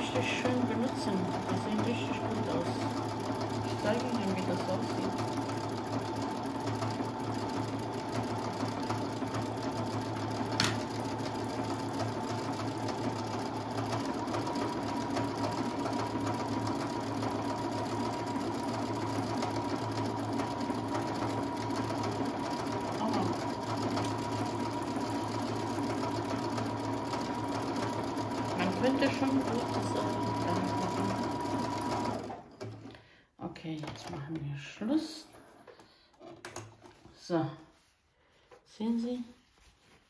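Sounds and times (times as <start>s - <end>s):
sewing machine humming: 0.0s - 33.0s.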